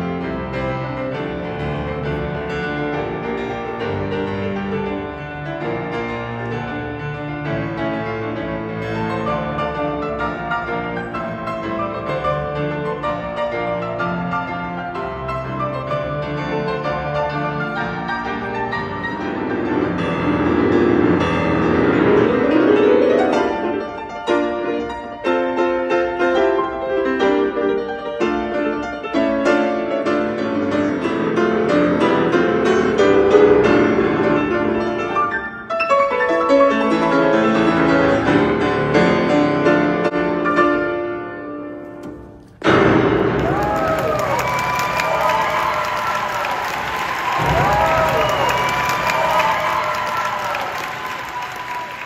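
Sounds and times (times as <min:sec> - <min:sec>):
fast dramatic piano piece: 0:00.0 - 0:52.0.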